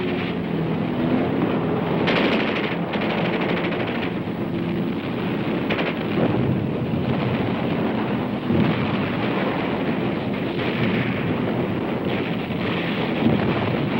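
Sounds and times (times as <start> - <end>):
steady rumble: 0.0 - 13.9.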